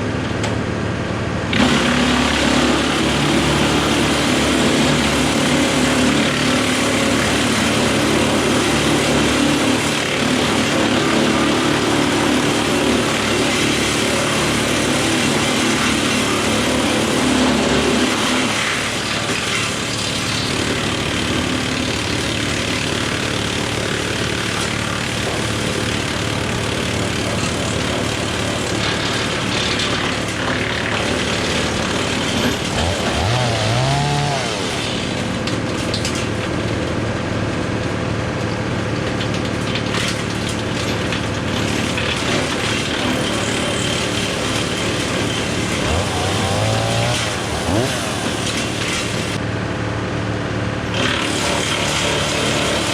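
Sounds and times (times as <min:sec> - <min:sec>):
wood chipper running: 0:00.0 - 0:52.9.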